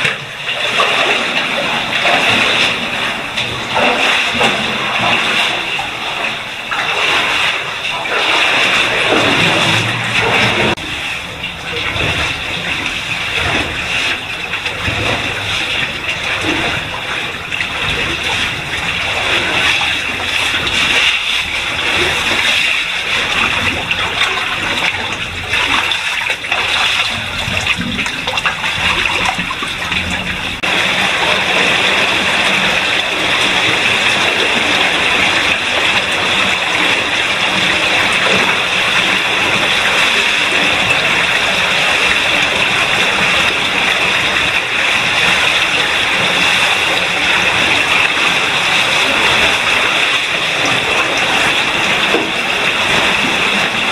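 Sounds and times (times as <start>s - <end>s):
rush of running water: 0.0s - 53.9s
water splashing from wading: 0.0s - 53.9s.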